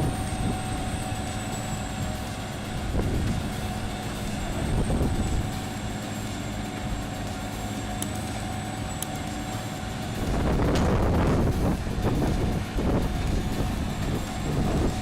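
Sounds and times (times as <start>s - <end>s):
high whine: 0.0s - 15.0s
shredder engine drone: 0.0s - 15.0s.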